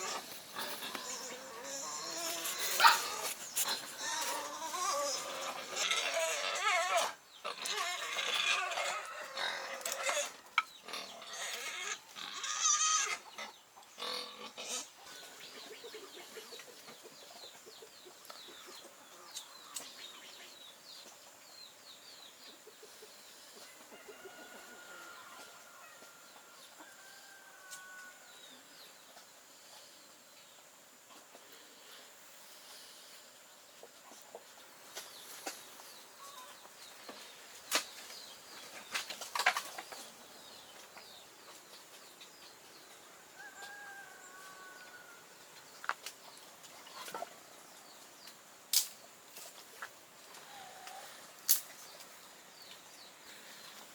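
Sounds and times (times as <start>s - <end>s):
chickens clucking and squawking: 0.0s - 21.4s, 22.2s - 48.5s, 49.3s - 52.5s.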